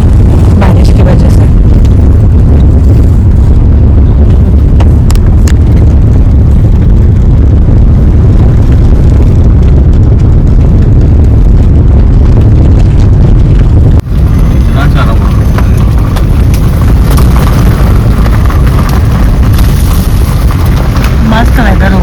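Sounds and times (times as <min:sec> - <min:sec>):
car driving over potholed road: 0:00.0 - 0:22.0.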